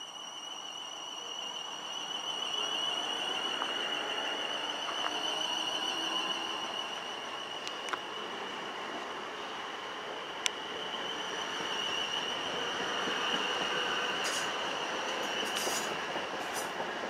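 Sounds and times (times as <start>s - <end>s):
electric train motor whine: 0.0s - 16.1s
train wheels rumbling on rails: 1.4s - 17.0s.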